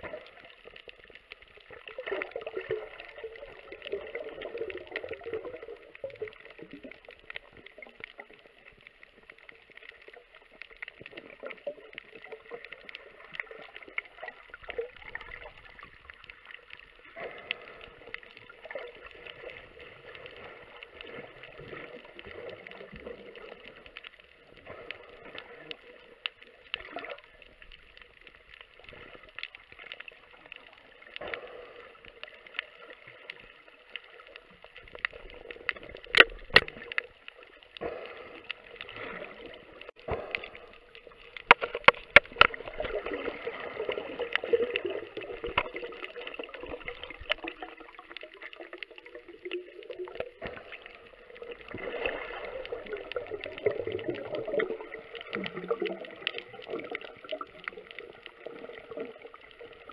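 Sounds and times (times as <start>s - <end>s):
water gurgling and sloshing: 0.0s - 59.9s.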